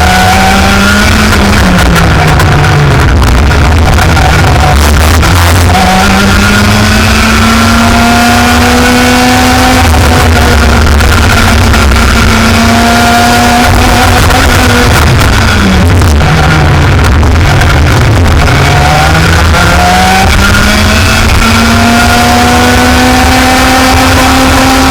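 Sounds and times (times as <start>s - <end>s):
kart engine at high revs: 0.0s - 24.9s
wind rumble on microphone: 0.0s - 24.9s.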